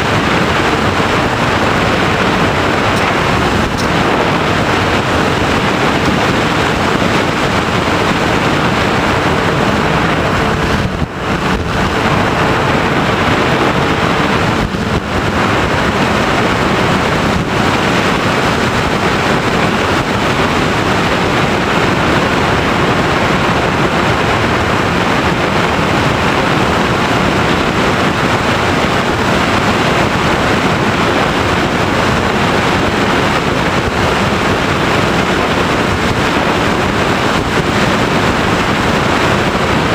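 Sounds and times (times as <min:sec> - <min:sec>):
airflow rushing: 0:00.0 - 0:39.9.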